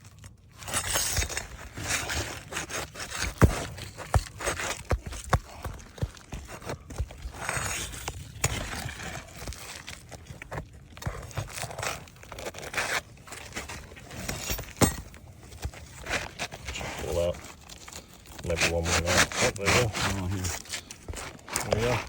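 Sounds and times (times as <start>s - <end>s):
pry bar scraping shingle: 0.2s - 22.0s.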